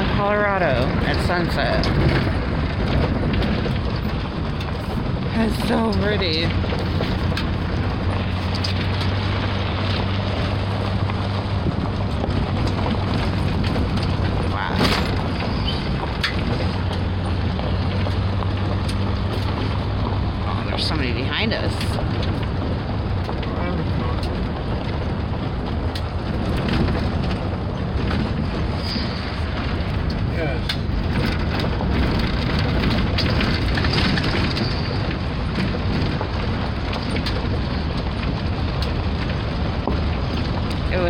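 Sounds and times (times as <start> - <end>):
car engine hum: 0.0 - 41.0
faint crackles: 0.0 - 41.0
tyre and wind noise: 0.0 - 41.0.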